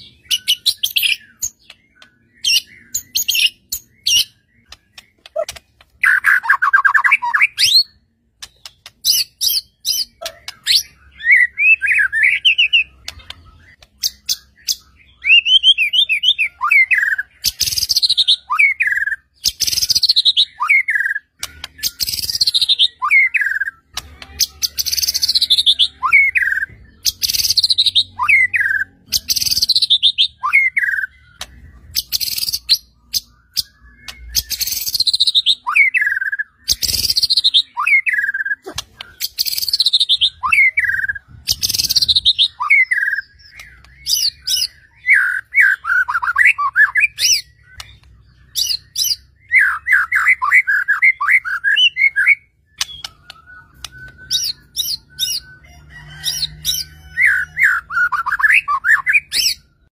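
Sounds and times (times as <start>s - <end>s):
songbird singing repeated phrase: 0.0s - 59.9s.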